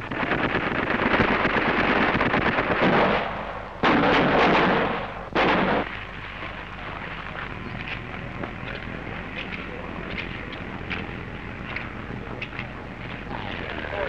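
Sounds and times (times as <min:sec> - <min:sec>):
loud gunshots: 0:00.0 - 0:12.0
artillery barrage rumbling: 0:00.0 - 0:14.0.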